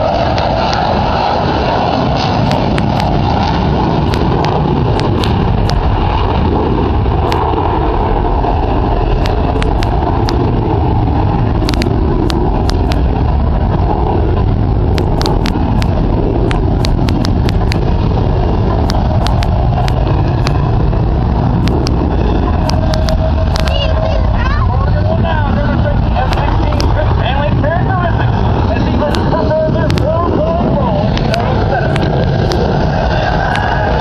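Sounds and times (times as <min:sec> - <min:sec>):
jet flying overhead: 0:00.0 - 0:34.0.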